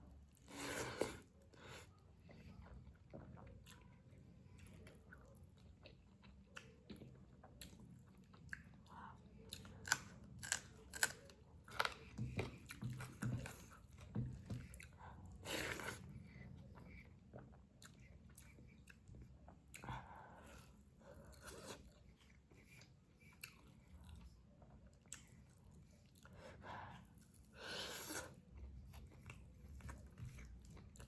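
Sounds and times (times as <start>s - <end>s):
chewing and biting food: 4.6s - 27.5s, 28.4s - 31.0s.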